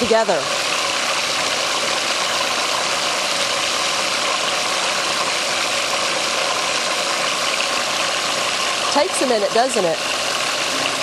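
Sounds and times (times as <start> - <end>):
food processor motor running: 0.0 - 11.0.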